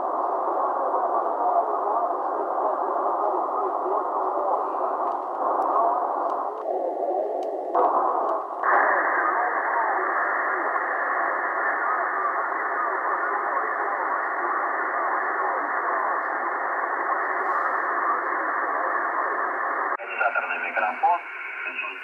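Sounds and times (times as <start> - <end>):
faint voice on radio: 0.0 - 22.0
muffled radio hiss: 0.0 - 22.0.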